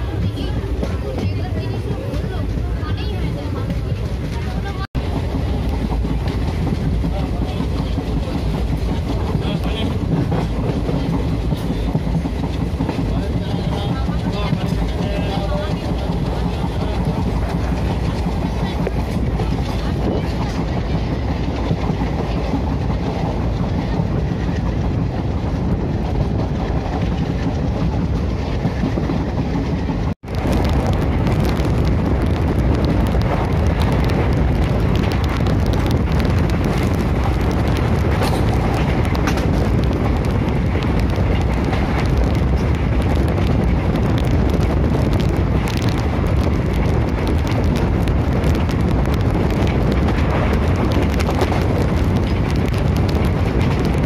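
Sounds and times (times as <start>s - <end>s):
train rumbling on track: 0.0s - 54.0s.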